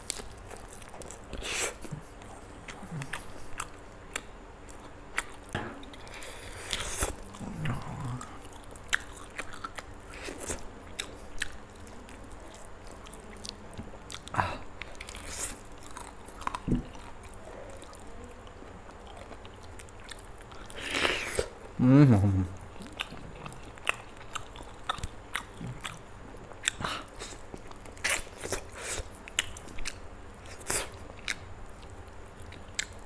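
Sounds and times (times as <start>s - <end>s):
chewing and biting chicken: 0.0s - 21.5s, 22.8s - 33.0s.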